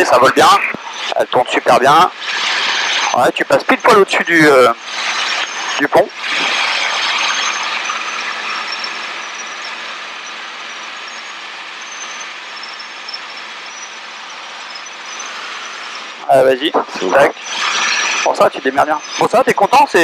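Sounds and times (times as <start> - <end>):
helicopter engine and rotor noise: 0.0 - 20.0.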